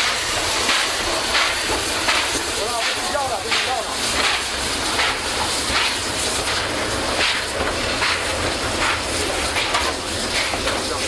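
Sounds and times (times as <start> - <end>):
clatter of train wheels: 0.0 - 11.0
steam train passing: 0.0 - 11.0.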